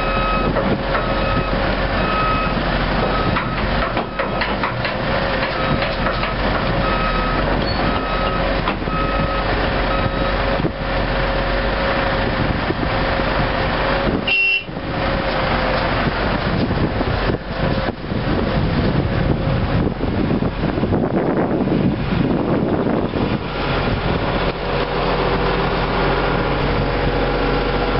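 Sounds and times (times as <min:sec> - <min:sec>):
excavator diesel engine whining: 0:00.0 - 0:27.9.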